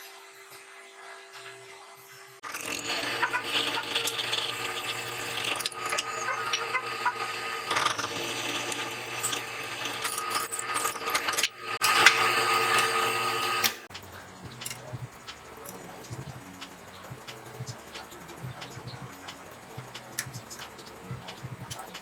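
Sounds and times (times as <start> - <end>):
power tool grinding: 2.4 - 22.0.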